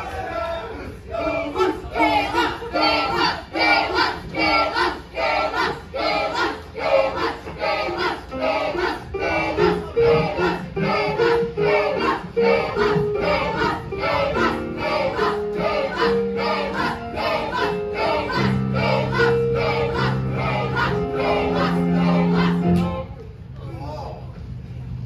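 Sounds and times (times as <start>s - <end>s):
choir chanting rhythmically: 0.0s - 23.2s
choir holding sung notes: 0.0s - 23.2s.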